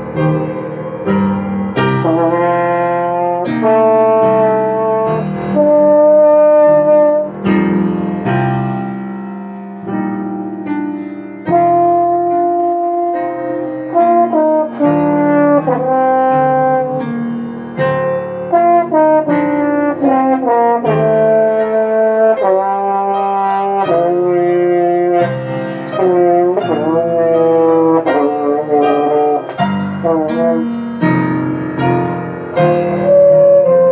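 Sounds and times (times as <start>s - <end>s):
french horn melody: 0.0s - 33.9s
piano: 0.0s - 33.9s.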